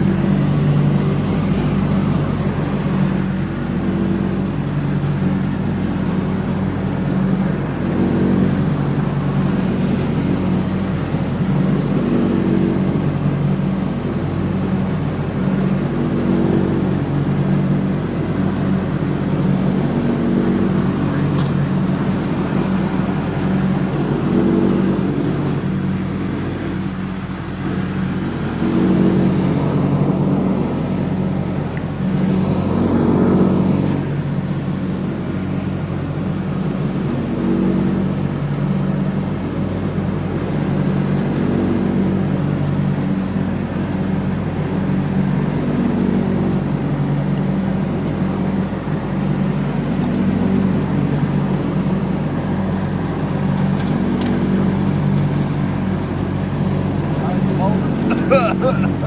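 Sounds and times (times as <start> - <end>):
riding lawnmower running: 0.0 - 59.0.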